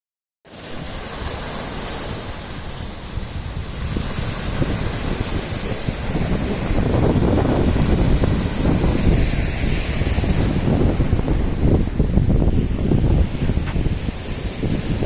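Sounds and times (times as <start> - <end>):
sea waves washing onto shore: 0.5 - 15.0
wind buffeting microphone: 0.6 - 15.0.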